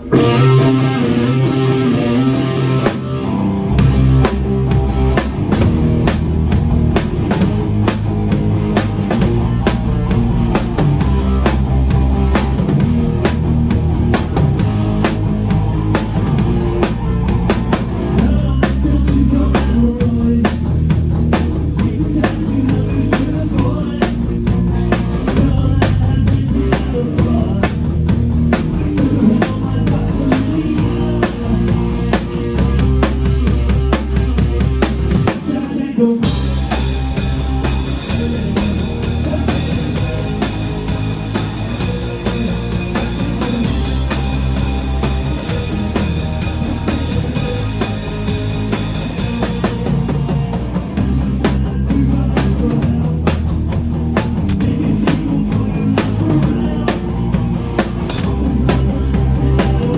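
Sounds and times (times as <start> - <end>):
drum kit: 0.0 - 59.9
rock band playing live: 0.0 - 59.9.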